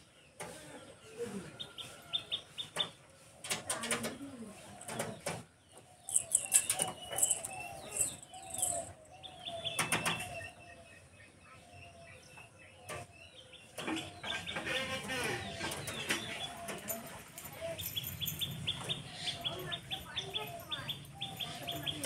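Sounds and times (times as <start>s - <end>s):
bird chirps and calls: 1.6s - 17.0s, 17.6s - 22.0s.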